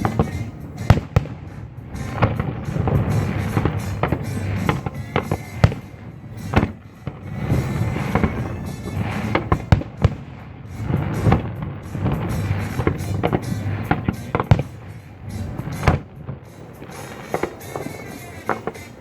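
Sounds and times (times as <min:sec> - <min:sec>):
fireworks bangs and crackles: 0:00.0 - 0:19.0
loud single firework bangs: 0:00.0 - 0:19.0
music: 0:00.0 - 0:19.0.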